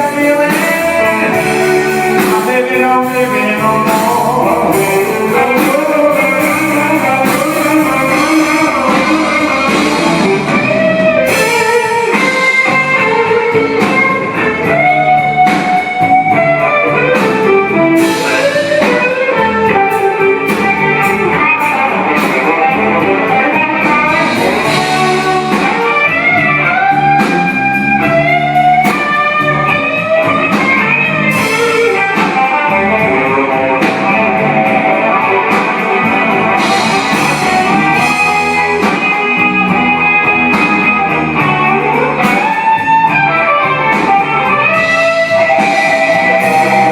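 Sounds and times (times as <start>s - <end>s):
bass and drums: 0.0s - 46.9s
electric guitar melody: 0.0s - 46.9s.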